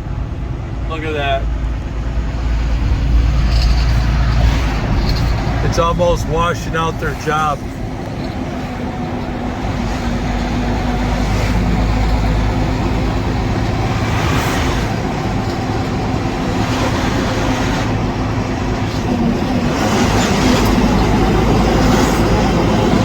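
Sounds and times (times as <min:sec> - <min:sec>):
diesel engine drone: 0:00.0 - 0:23.0
tyre and road noise: 0:00.0 - 0:23.0
wind rushing: 0:00.8 - 0:23.0.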